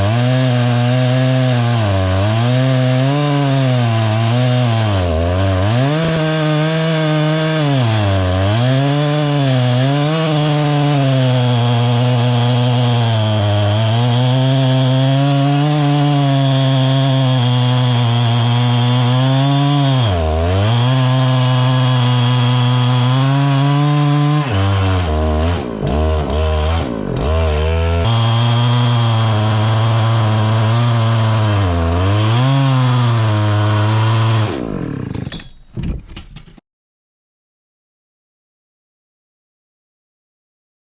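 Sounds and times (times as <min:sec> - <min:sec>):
chainsaw cutting log: 0:00.0 - 0:35.8.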